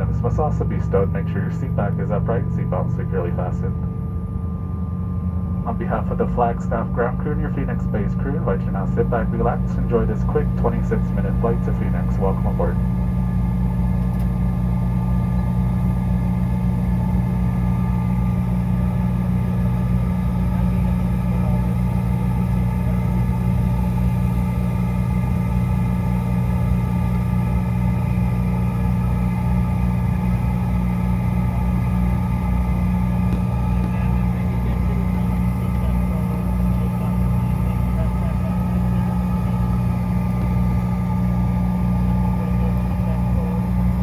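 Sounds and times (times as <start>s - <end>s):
jet cabin drone: 0.0s - 44.0s.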